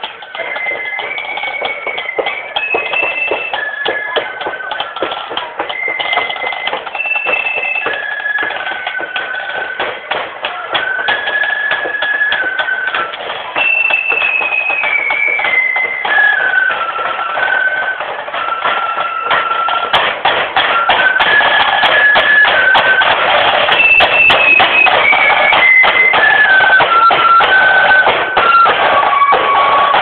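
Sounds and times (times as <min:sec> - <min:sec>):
flutes playing in unison: 0:00.0 - 0:30.0
marching drums: 0:00.0 - 0:30.0.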